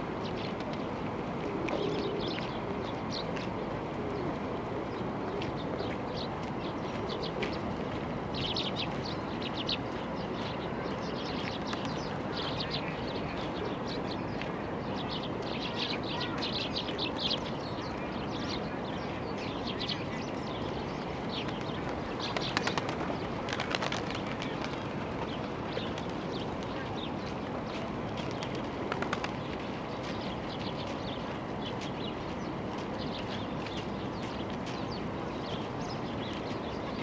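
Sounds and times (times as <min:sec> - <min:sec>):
small birds chirping: 0:00.2 - 0:00.9, 0:01.6 - 0:37.0.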